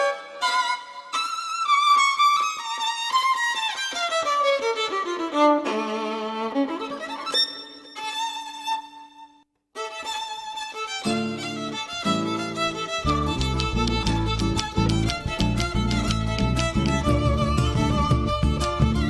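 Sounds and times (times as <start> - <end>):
violin melody: 0.0 - 19.0.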